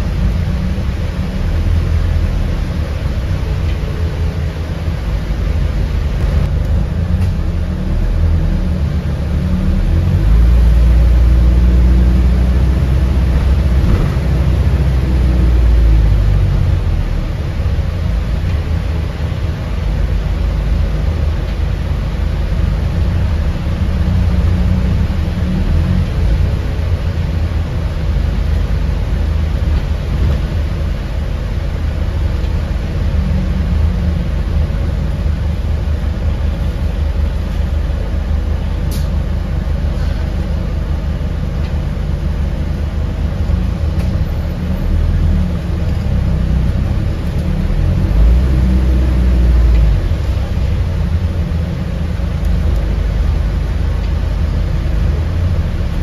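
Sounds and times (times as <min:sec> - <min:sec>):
bus drivetrain rumble: 0:00.0 - 0:56.0
low engine surge: 0:00.0 - 0:56.0.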